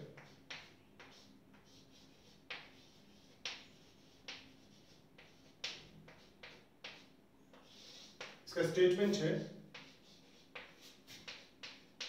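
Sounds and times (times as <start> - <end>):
chalk tapping and scratching: 0.0 - 12.0.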